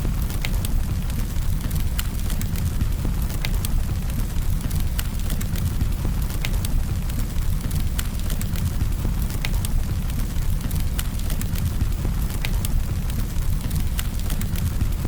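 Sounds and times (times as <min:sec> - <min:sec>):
campfire snaps and pops: 0:00.0 - 0:15.0
low rumble of burning fire: 0:00.0 - 0:15.0.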